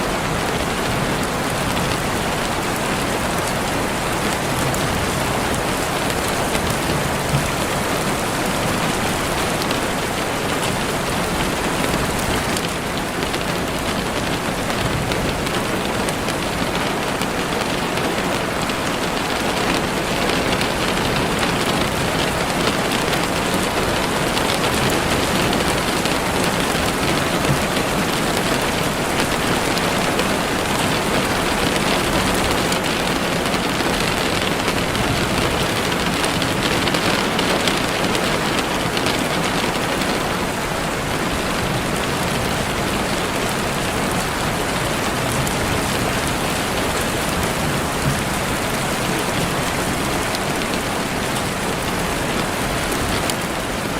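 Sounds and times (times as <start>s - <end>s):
heavy rain on leaves: 0.0s - 53.9s.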